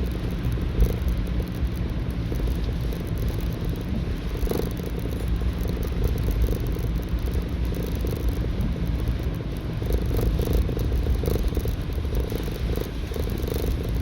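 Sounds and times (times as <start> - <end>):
motorcycle engine low rumble: 0.0 - 14.0.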